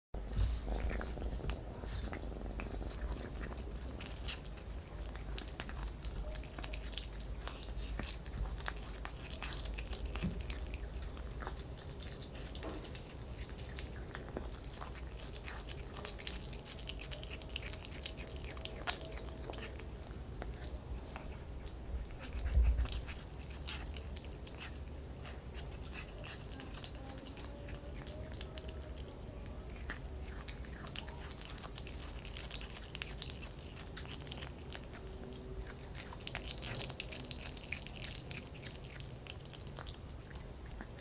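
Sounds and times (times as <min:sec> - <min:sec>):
kitten chewing: 0:00.2 - 0:41.0
steady low hum: 0:00.2 - 0:41.0.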